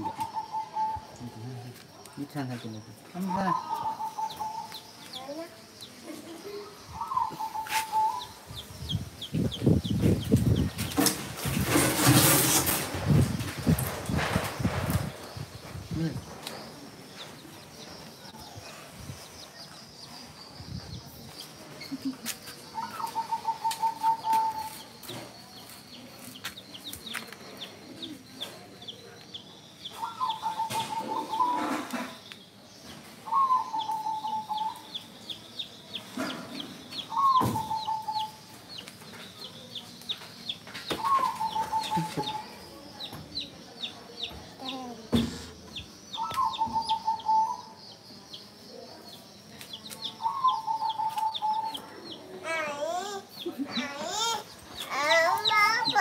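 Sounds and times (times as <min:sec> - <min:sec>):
baby chicks peeping: 0:00.0 - 0:56.0.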